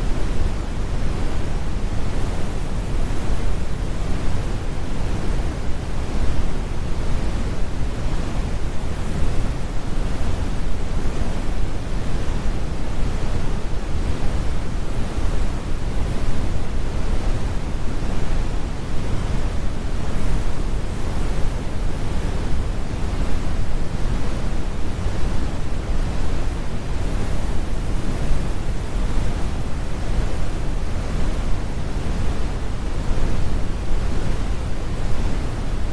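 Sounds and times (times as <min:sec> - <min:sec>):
brown noise rumble: 0:00.0 - 0:35.9.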